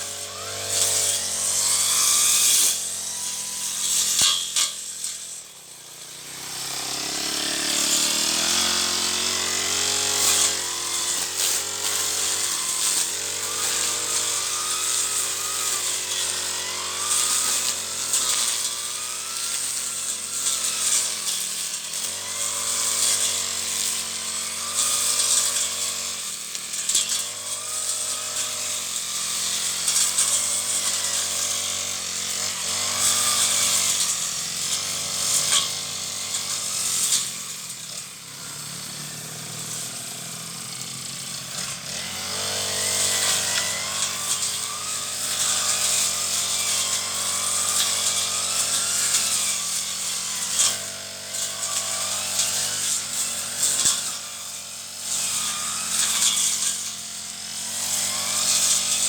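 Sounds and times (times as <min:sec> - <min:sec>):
brush cutter engine revving: 0:00.0 - 0:59.0
hiss of cutting weeds: 0:00.0 - 0:59.0.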